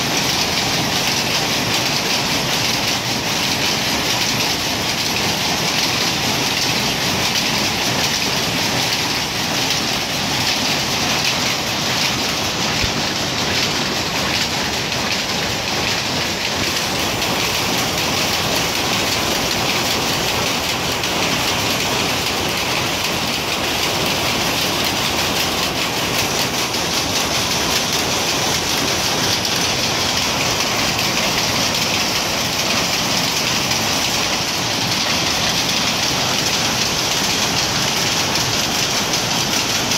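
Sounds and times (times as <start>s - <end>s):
power looms clattering: 0.0s - 39.9s.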